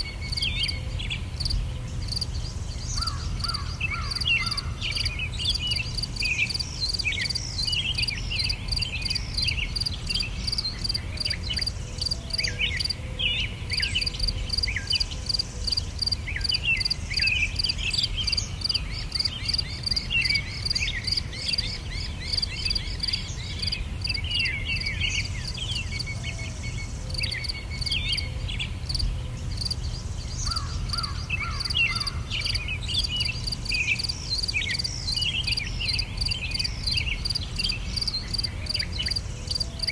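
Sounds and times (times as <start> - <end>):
pulsing insect chirp: 0.0 - 13.0, 13.7 - 39.9
small birds chirping: 0.0 - 39.9.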